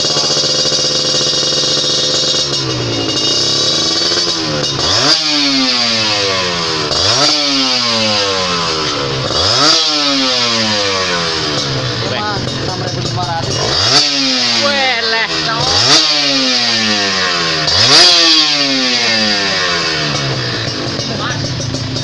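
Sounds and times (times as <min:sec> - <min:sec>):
engine throttle blips: 0:00.0 - 0:22.0
motorcycle engine idling: 0:00.0 - 0:22.0.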